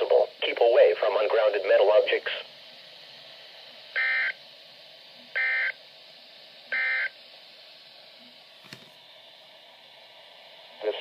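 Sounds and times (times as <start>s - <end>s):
radio hiss: 0.0s - 8.8s, 9.4s - 11.0s.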